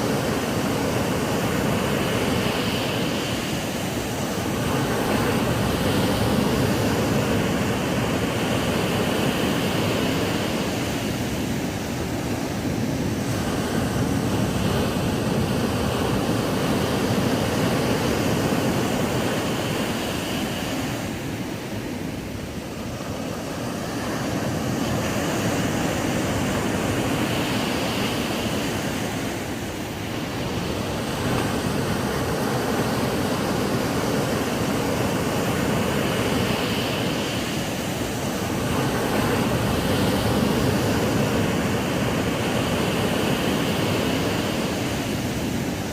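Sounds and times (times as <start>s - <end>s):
ocean surf breaking on beach: 0.0s - 45.9s.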